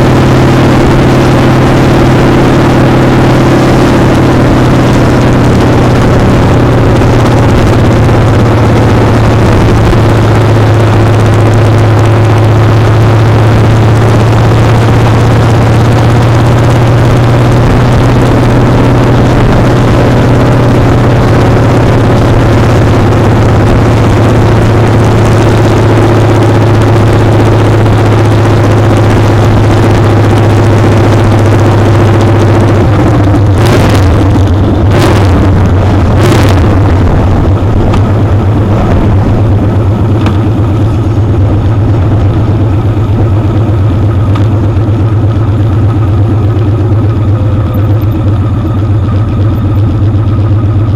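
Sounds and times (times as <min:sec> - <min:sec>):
motorcycle engine running hard: 0:00.0 - 0:50.9
road and wind noise: 0:00.0 - 0:50.9.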